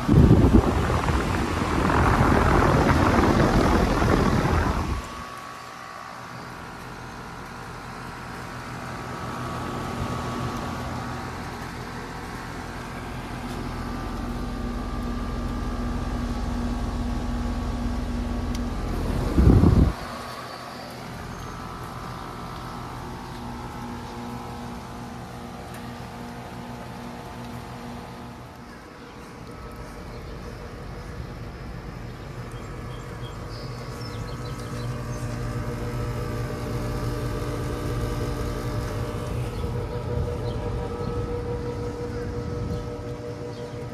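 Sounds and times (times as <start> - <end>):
air conditioner unit hum: 0.0 - 43.9
fan air blowing into microphone: 0.0 - 43.9.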